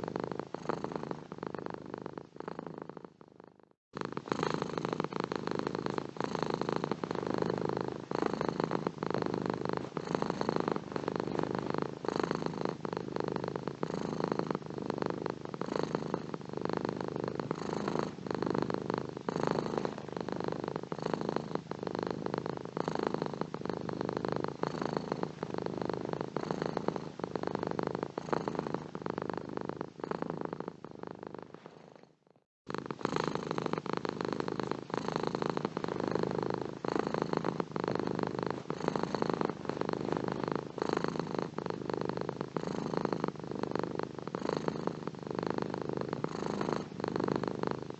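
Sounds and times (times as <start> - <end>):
cat purring: 0.0 - 47.9.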